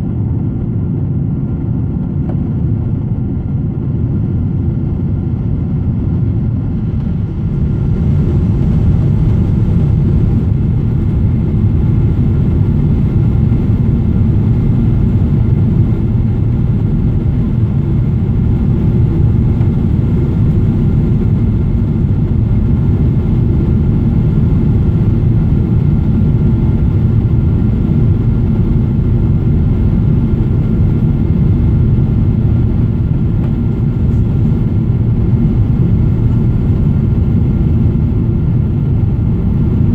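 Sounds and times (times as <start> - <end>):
jet engine and airflow roar: 0.0 - 39.9.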